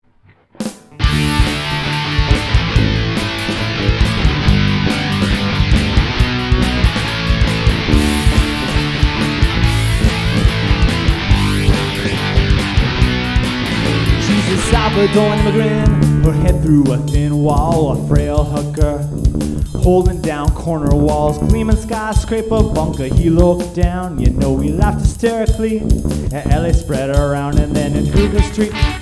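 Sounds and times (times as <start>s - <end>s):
rock band playing live: 0.6s - 29.0s
steady drum beat: 0.7s - 29.0s.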